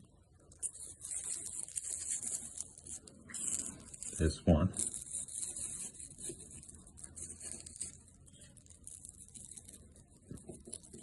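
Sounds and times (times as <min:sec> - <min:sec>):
light scraping of small parts: 0:00.4 - 0:11.0.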